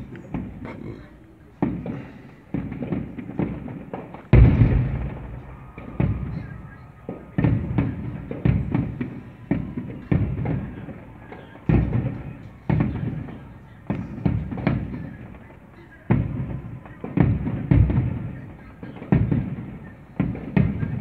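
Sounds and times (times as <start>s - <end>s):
fireworks booming: 0.0s - 21.0s.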